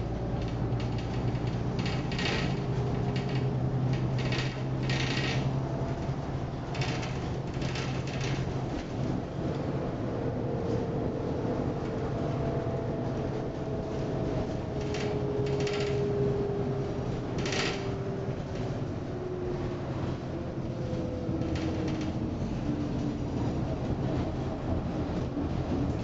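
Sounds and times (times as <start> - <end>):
bus body rattles: 0.0 - 9.7, 11.8 - 26.0
bus engine drone and whine: 0.0 - 26.0.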